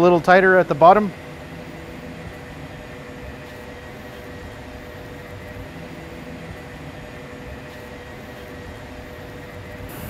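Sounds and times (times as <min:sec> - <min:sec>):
faint constant tones: 0:00.0 - 0:10.0
machinery hum and hiss: 0:00.0 - 0:10.0.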